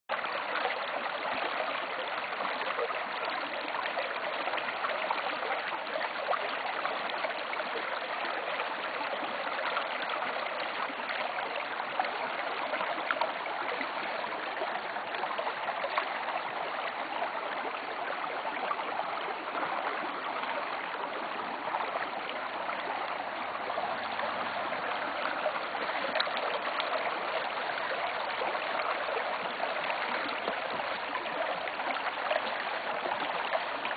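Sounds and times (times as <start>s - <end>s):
stream babbling over rocks: 0.1s - 33.9s.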